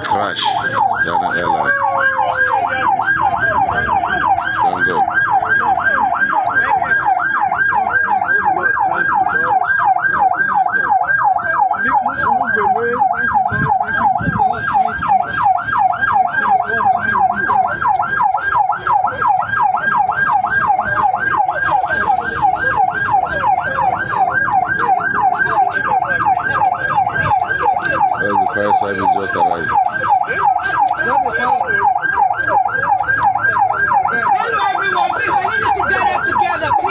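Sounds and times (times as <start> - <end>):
fire engine siren yelping: 0.0 - 36.9.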